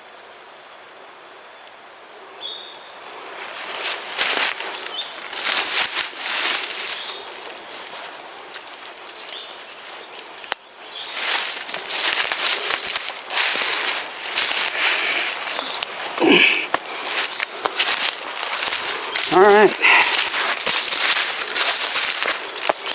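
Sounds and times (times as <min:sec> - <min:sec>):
turkey wings flapping in dry leaves: 0:03.2 - 0:22.9.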